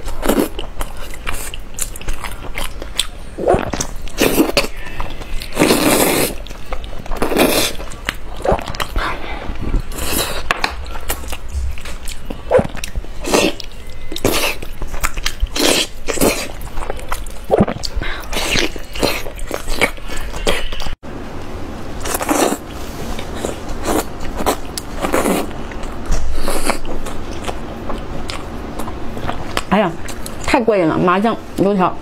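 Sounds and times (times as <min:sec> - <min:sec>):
person biting and chewing food: 0:00.0 - 0:21.0, 0:22.0 - 0:30.5.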